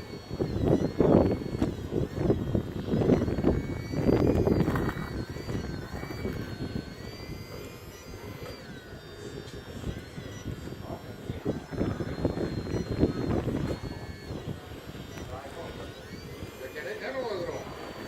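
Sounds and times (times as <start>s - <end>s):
electric motors whining: 0.0s - 18.0s.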